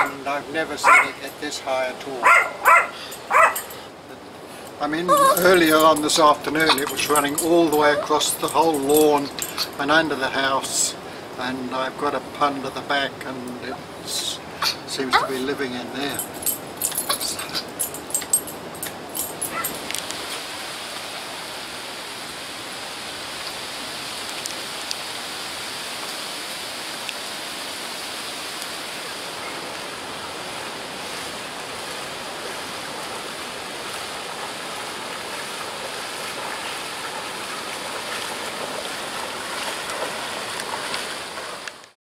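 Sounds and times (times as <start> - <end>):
moving water rushing: 0.0 - 42.0.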